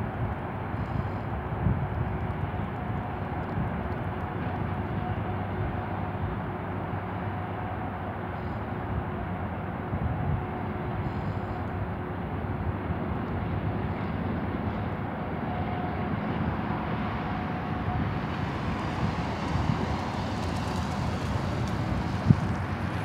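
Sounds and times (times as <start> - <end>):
distant freight train rumble: 0.0 - 23.0.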